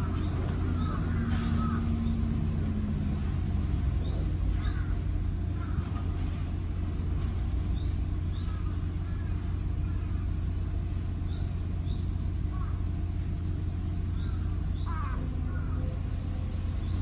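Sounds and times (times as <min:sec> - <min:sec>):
small birds chirping: 0:00.0 - 0:06.6, 0:07.2 - 0:17.0
construction machinery rumble: 0:00.0 - 0:17.0.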